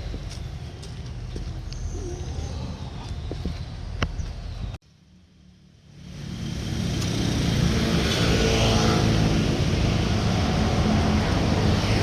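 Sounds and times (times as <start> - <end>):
road and wind noise: 0.0 - 12.0
vehicle engine drone: 0.0 - 12.0.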